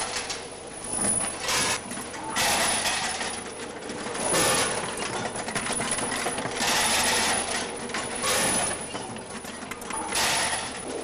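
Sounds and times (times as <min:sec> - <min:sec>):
packing machine noise: 0:00.0 - 0:11.0.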